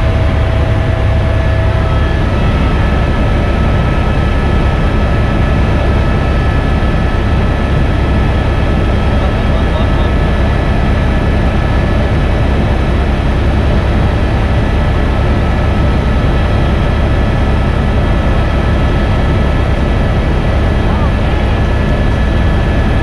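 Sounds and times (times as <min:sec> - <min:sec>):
helicopter rotor and engine drone: 0:00.0 - 0:23.0
thin steady whine: 0:00.0 - 0:23.0.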